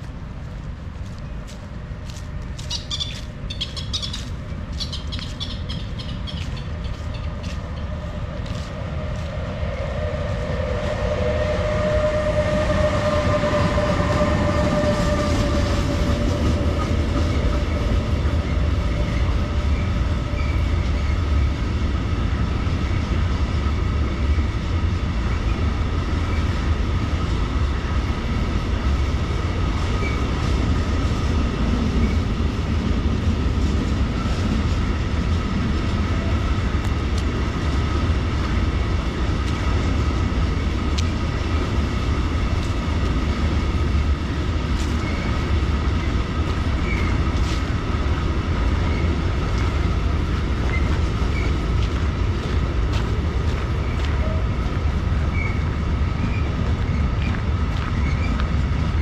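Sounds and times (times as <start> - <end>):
steady whine: 6.6 - 59.0.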